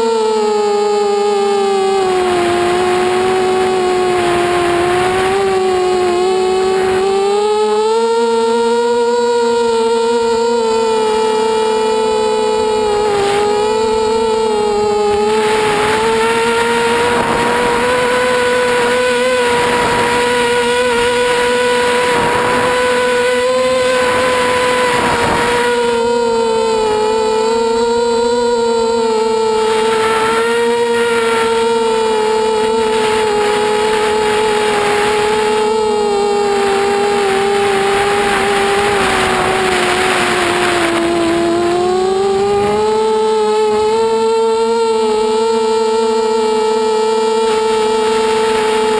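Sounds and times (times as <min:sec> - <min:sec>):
quadcopter motors whining: 0:00.0 - 0:48.9
wind on microphone: 0:01.9 - 0:07.5, 0:10.2 - 0:28.4, 0:29.0 - 0:44.7.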